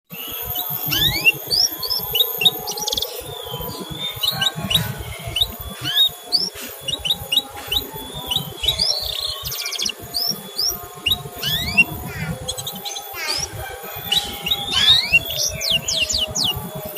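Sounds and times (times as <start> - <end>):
buzzy bird trills: 0.1 - 16.9
canary chirping: 0.1 - 16.9.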